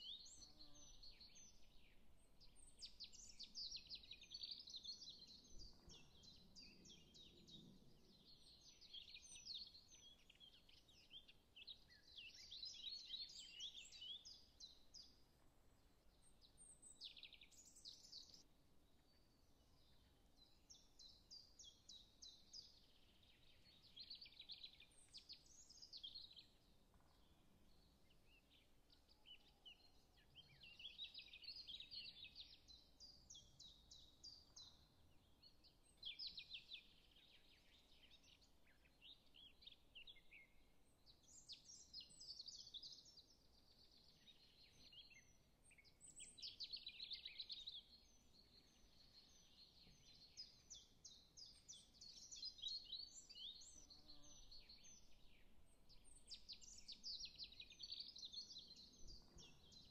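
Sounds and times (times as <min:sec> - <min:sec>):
faint small birds chirping: 0:00.0 - 0:59.9.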